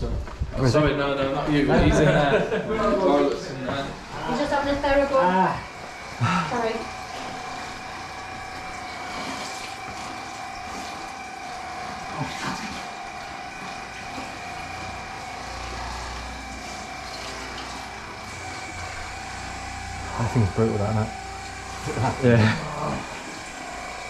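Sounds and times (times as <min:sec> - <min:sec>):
steady hum: 0:00.0 - 0:24.0
water running in a sink: 0:00.6 - 0:24.0.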